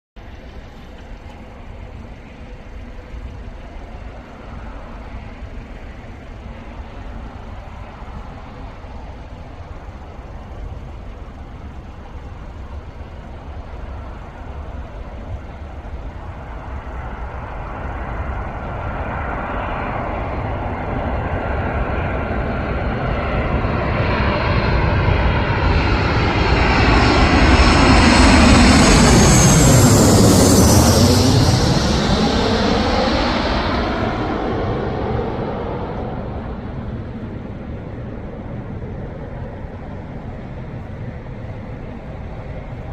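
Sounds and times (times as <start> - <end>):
jet airliner approaching: 0.2 - 42.9
rising jet engine whine: 0.2 - 42.9.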